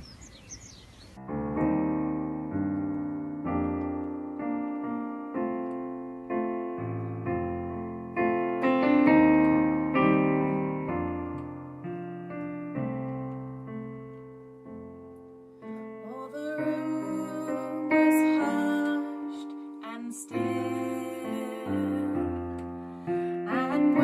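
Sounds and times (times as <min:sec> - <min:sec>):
slow piano chords: 0:00.0 - 0:24.0.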